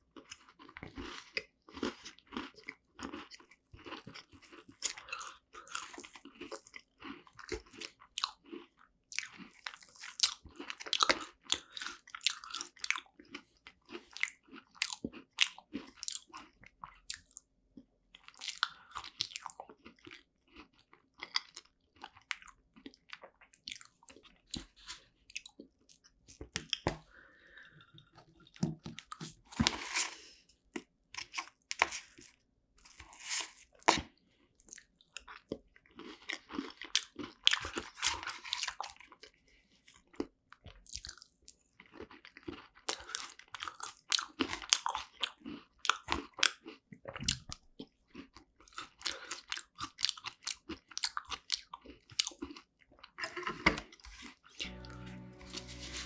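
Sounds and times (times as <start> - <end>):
chewing and crunching: 0.0 - 54.7.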